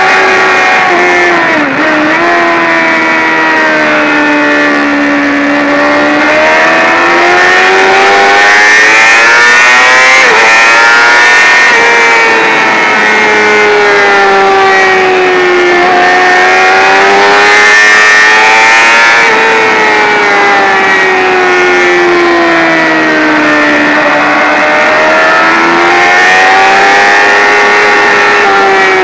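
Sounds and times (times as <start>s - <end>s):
motorcycle engine at high revs: 0.0s - 29.0s.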